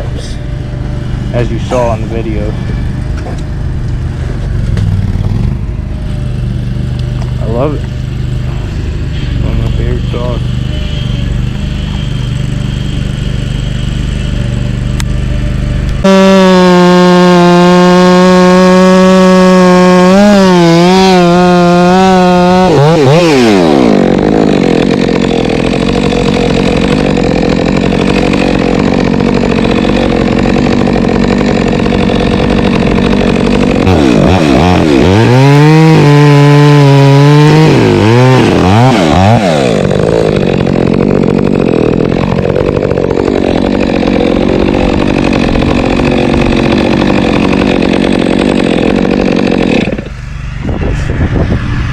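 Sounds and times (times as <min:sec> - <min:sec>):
chainsaw revving: 0:00.0 - 0:50.6
chainsaw cutting wood: 0:00.0 - 0:51.9.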